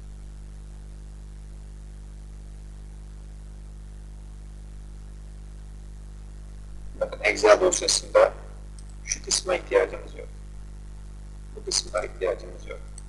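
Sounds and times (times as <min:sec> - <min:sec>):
background hiss: 0:00.0 - 0:13.0
mains hum with low buzz: 0:00.0 - 0:13.0.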